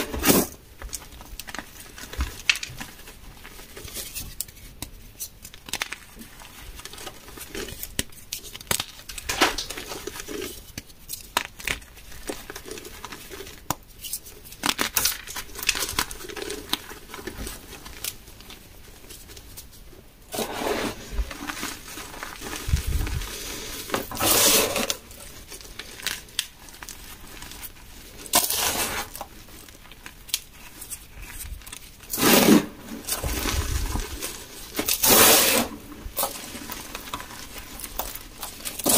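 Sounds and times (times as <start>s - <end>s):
gritty powder rustling: 0.0s - 38.9s.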